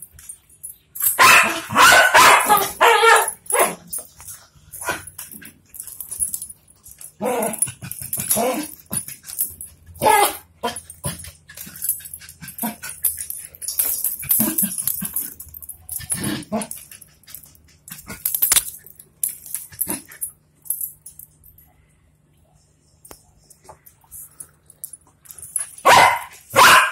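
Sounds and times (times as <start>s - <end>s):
metal chain rattling on tile: 0.0s - 21.7s, 23.5s - 26.9s.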